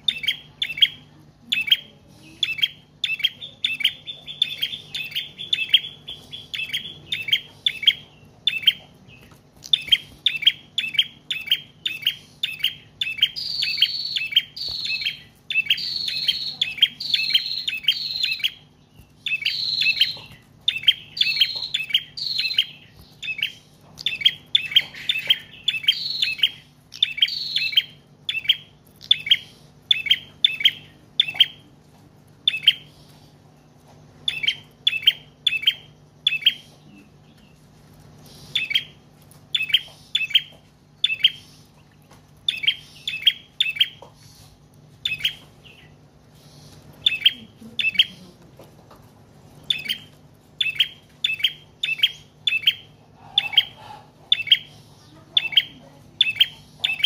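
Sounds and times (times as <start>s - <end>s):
bird chirping: 0.0s - 31.7s, 32.4s - 33.6s, 34.2s - 48.4s, 49.5s - 57.0s.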